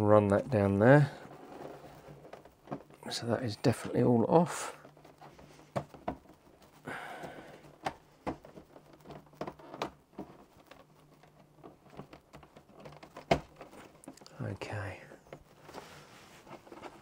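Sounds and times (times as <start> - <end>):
plastic scrape: 0.4 - 17.0.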